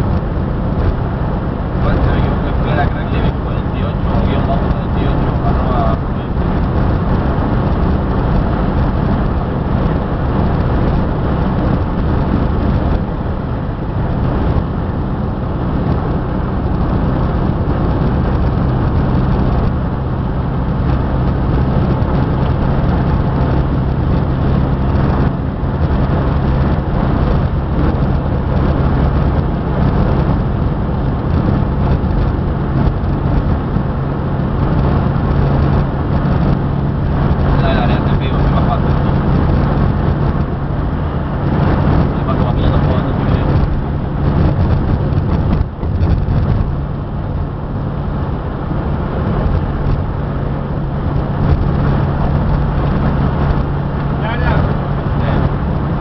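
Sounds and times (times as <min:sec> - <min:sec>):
rushing travel noise: 0:00.0 - 0:56.0
vehicle engine drone: 0:00.0 - 0:56.0.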